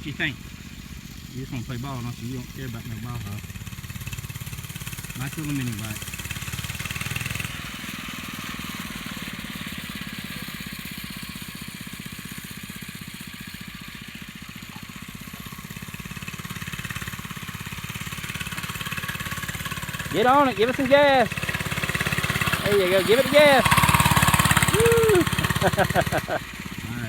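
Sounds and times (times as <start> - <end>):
mini bike engine running: 0.0 - 27.0.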